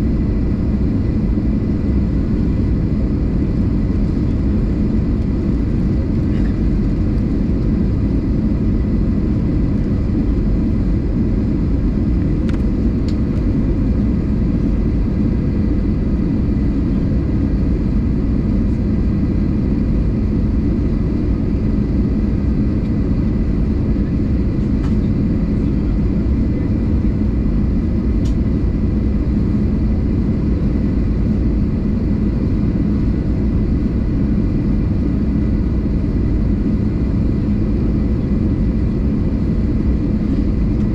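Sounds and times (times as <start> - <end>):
aircraft cabin rumble: 0.0 - 40.9
faint steady whine: 0.0 - 40.9.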